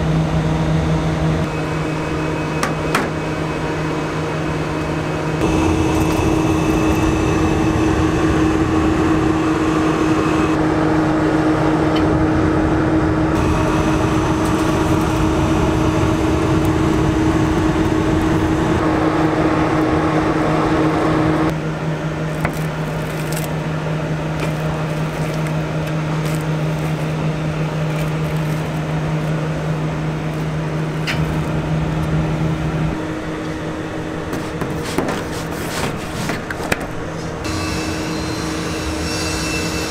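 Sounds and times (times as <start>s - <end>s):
oven blower fans humming: 0.0s - 39.9s.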